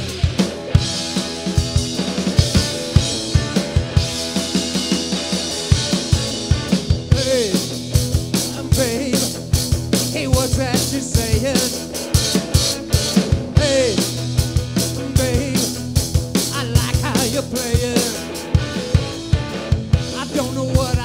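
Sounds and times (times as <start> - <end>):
bass guitar: 0.0 - 21.0
driving drum kit: 0.0 - 21.0
electric guitar lead with bends: 0.0 - 21.0.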